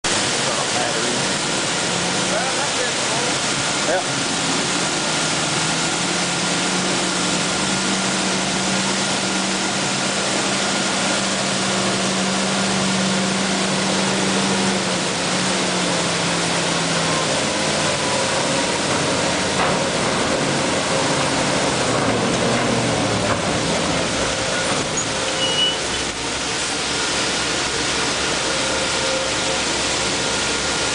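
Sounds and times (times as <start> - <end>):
loud rushing noise: 0.0 - 30.9
truck engine running: 0.0 - 30.9.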